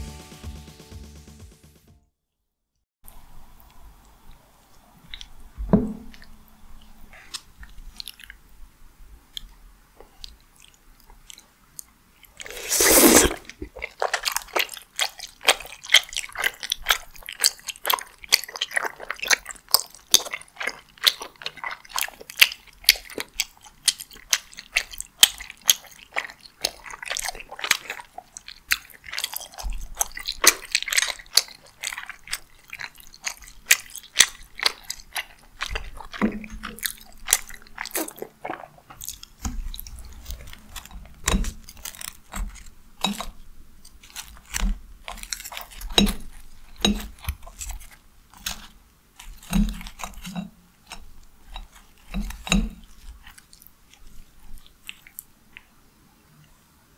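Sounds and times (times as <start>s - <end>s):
wet chewing clicks and smacks: 3.6s - 5.4s, 6.1s - 8.5s, 9.3s - 12.6s, 13.4s - 55.8s.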